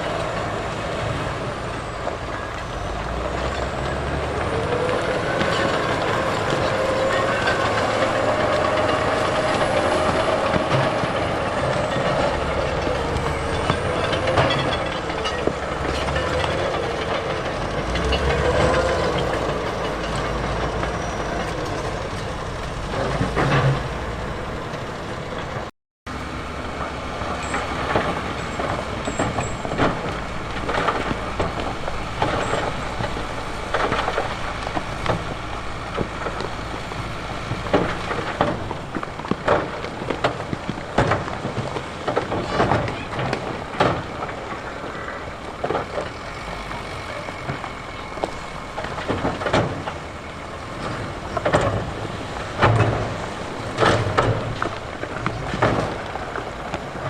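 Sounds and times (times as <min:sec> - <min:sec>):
diesel machinery engine under load: 0:00.0 - 0:57.0
metal clanks and knocks: 0:01.8 - 0:24.8, 0:26.8 - 0:57.0.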